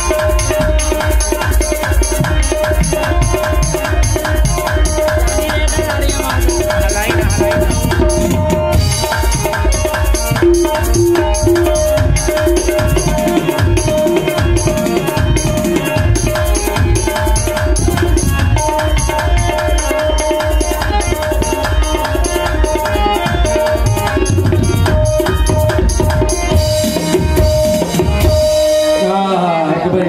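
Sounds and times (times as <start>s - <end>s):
harmonium held notes: 0.0s - 30.0s
tabla drumming: 0.0s - 30.0s.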